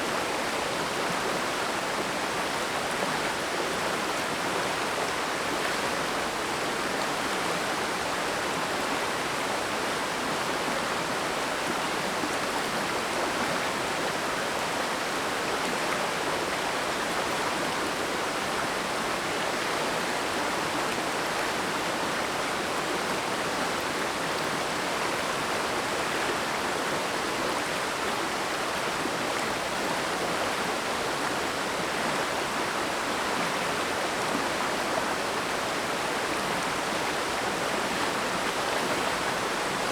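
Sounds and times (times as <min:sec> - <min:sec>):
mountain stream rushing over rocks: 0:00.0 - 0:39.9.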